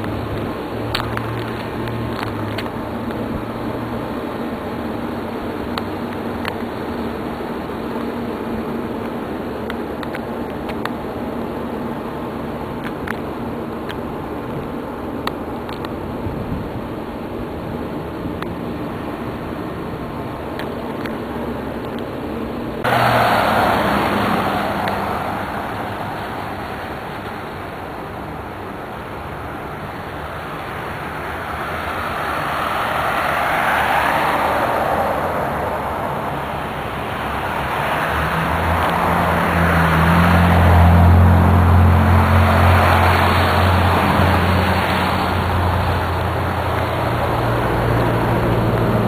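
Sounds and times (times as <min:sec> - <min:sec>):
low engine hum: 0:00.0 - 0:49.0
road traffic passing: 0:00.0 - 0:49.0.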